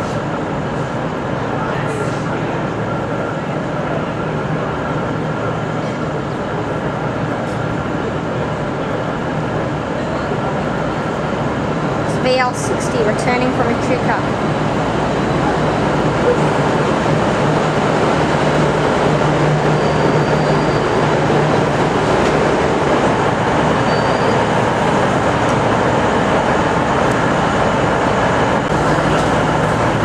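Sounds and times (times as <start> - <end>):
diesel railcar engine drone: 0.0 - 30.0.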